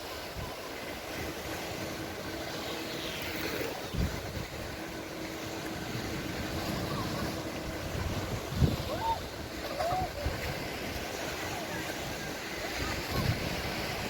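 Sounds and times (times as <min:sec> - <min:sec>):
surf: 0:00.0 - 0:14.0
wind: 0:00.0 - 0:14.0
distant motor hum: 0:00.1 - 0:14.0.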